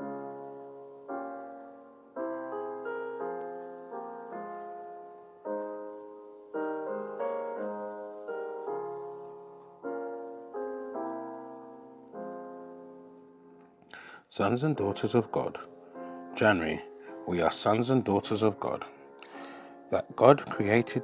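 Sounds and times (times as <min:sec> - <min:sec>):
gentle solo piano music: 0:00.0 - 0:21.0.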